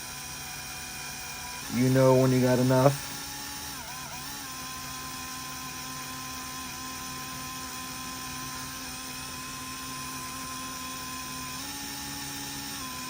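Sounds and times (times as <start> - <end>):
electric drill drilling metal: 0.0 - 13.0.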